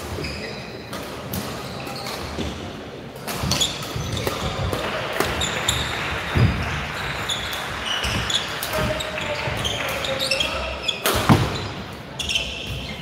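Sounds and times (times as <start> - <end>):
shoes squeaking on floor: 0.0 - 1.0, 1.6 - 2.6, 3.4 - 13.0.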